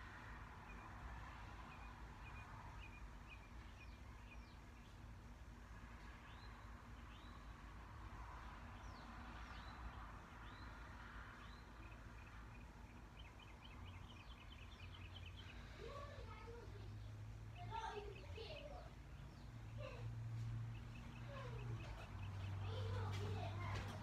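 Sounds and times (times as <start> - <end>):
faint bird chirping: 0.0 - 24.0.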